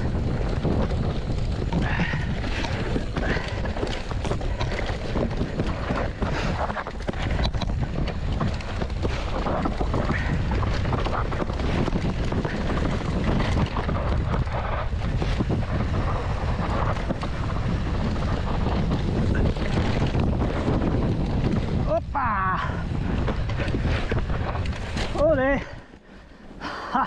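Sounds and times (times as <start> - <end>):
bike knocks and rattles: 0.0 - 26.0
wind rumbling on microphone: 0.0 - 27.0.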